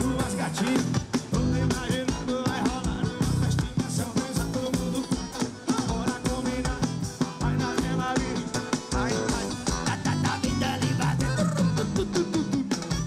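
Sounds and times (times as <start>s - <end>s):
accordion: 0.0s - 13.0s
drum kit beat: 0.0s - 13.0s
keyboard: 0.0s - 13.0s
person singing: 0.0s - 13.0s.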